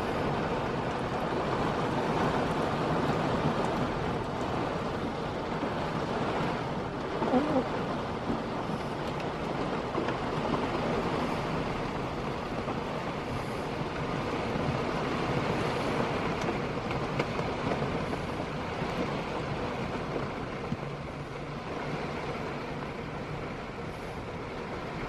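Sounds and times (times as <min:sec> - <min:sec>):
heavy rain downpour: 0:00.0 - 0:25.0.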